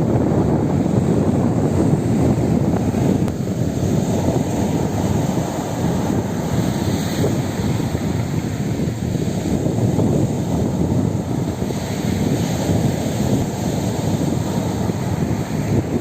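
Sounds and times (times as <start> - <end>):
sea surf washing onto shore: 0.0 - 16.0
wind buffeting microphone: 0.0 - 16.0.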